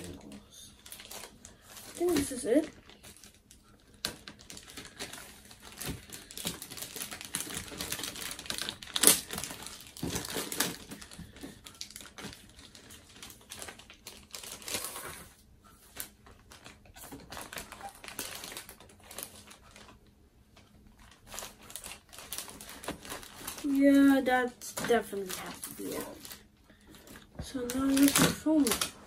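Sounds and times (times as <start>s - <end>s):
plastic bag crinkling: 0.0s - 20.0s, 21.0s - 29.0s.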